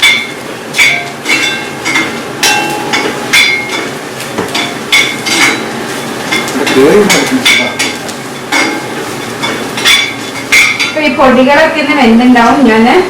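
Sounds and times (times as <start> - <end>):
metal spatula clanking on pan: 0.0 - 11.0.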